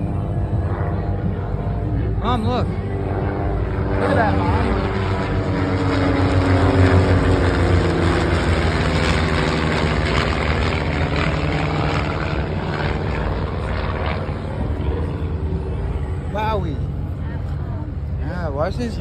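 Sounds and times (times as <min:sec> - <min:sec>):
propeller airplanes droning overhead: 0:00.0 - 0:19.0.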